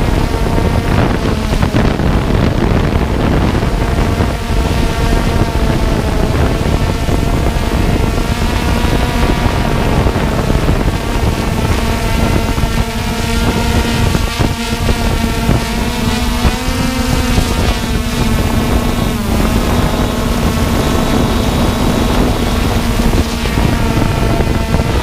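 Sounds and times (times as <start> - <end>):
drone motors whining: 0.0 - 25.0
wind buffeting microphone: 0.0 - 25.0.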